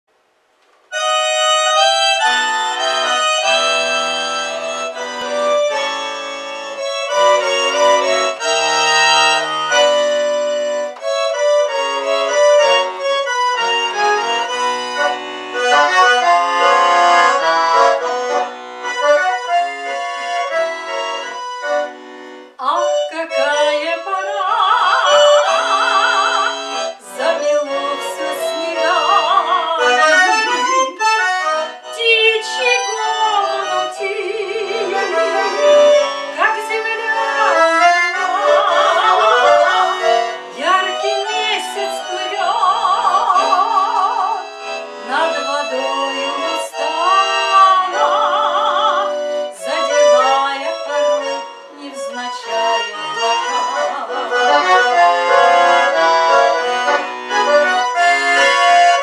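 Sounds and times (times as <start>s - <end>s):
accordion melody: 0.9s - 59.0s.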